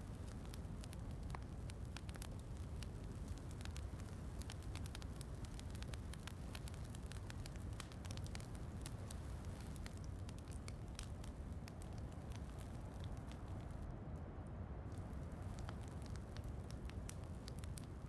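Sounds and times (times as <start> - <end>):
rain pattering: 0.0 - 13.9, 14.9 - 18.0
wood fire crackling and popping: 0.0 - 14.0, 14.9 - 18.0.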